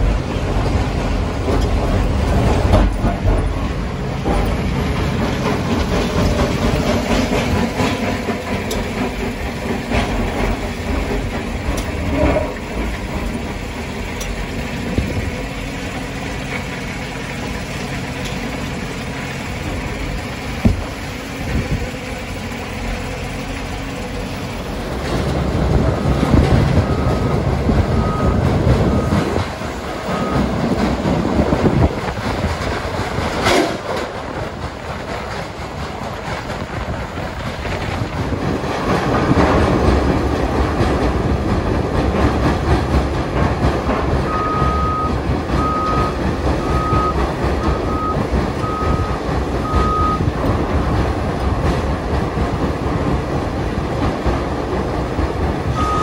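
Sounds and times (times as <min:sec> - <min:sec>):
heavy machinery engine rumble: 0:00.0 - 0:56.0.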